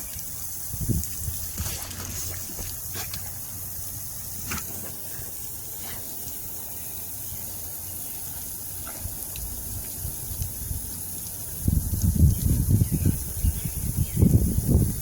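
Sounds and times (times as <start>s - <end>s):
lawn sprinkler spraying water: 0.0s - 15.0s.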